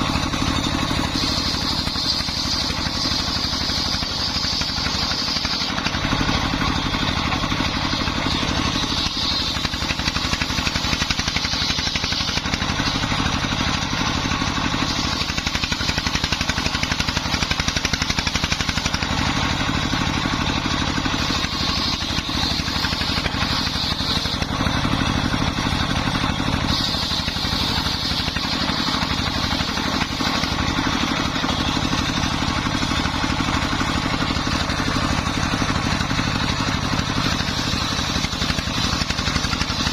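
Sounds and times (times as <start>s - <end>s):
circular saw hiss: 0.0s - 39.9s
diesel engine running steadily: 0.0s - 39.9s.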